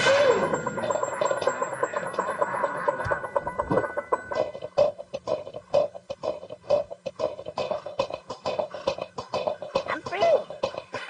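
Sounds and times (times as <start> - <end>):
music of rapid clicks: 0.0 - 11.0.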